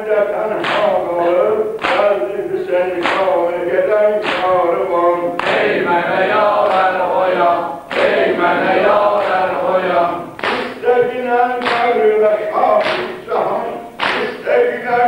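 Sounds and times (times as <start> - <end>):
men chanting in unison: 0.0 - 15.0
sharp rhythmic strikes: 0.0 - 15.0.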